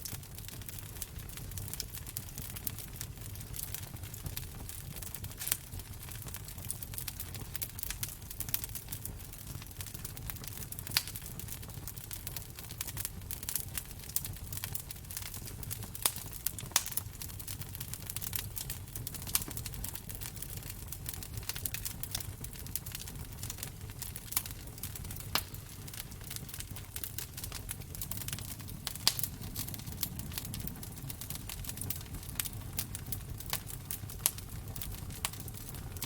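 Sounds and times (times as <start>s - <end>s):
low rumble of flames: 0.0s - 36.0s
wood fire crackling: 0.0s - 36.0s.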